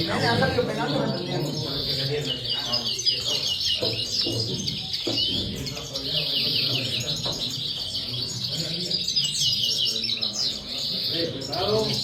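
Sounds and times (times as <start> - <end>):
birds twittering and trilling: 0.0 - 12.0.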